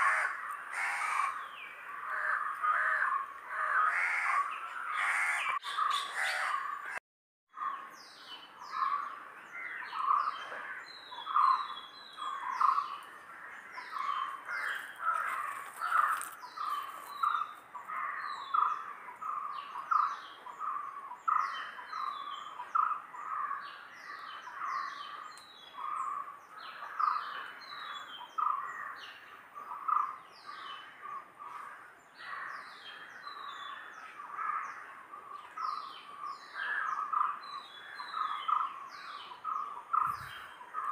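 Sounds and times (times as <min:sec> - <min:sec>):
repeated mid-pitched bird calls: 0:00.0 - 0:40.9.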